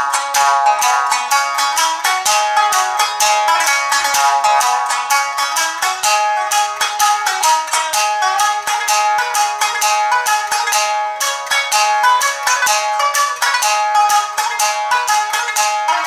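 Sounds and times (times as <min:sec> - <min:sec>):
shamisen plucked notes: 0:00.0 - 0:16.0.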